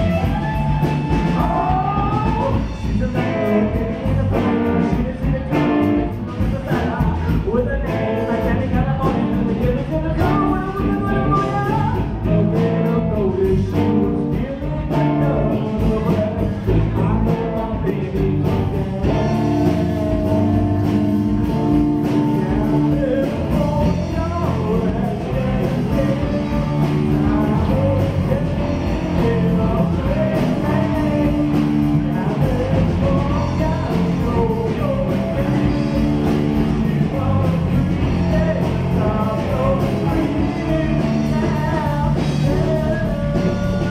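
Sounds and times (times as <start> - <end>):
amplified electric guitar: 0.0 - 43.9
drum kit beat: 0.0 - 43.9
person singing: 0.0 - 43.9.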